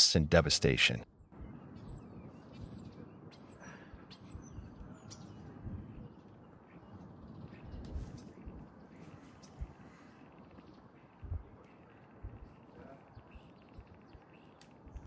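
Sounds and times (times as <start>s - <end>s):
outdoor background noise: 0.0s - 15.0s
small bird chirping: 1.4s - 15.0s.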